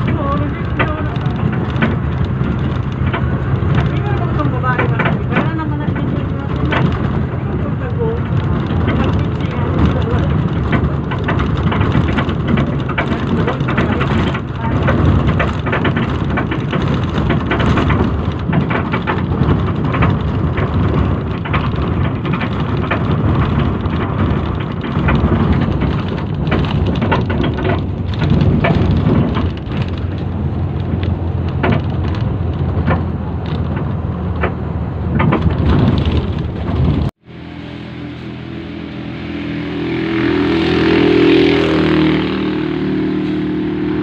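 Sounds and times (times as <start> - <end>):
deep rumble: 0.0 - 44.0
wind and road noise: 0.0 - 44.0
wind buffeting microphone: 0.0 - 44.0.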